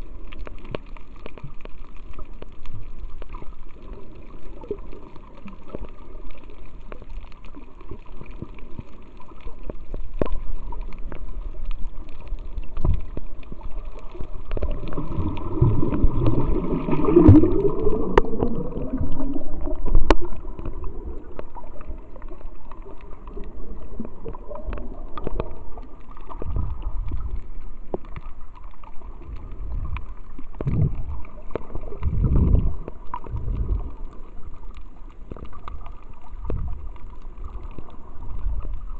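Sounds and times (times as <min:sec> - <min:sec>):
low water surges: 0:00.0 - 0:38.9
underwater gurgling and sloshing: 0:00.0 - 0:38.9
air bubbles rushing: 0:02.1 - 0:38.9.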